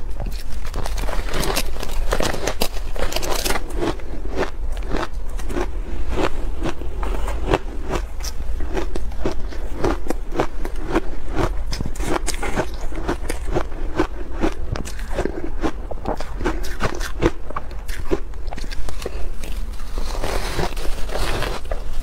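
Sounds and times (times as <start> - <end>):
ice being crunched by chewing: 0.0 - 22.0.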